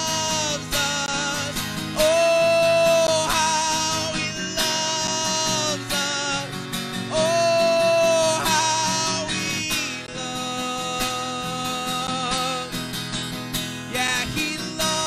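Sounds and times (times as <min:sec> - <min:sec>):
man singing: 0:00.0 - 0:13.0, 0:13.6 - 0:15.0
strummed acoustic guitar: 0:00.0 - 0:15.0.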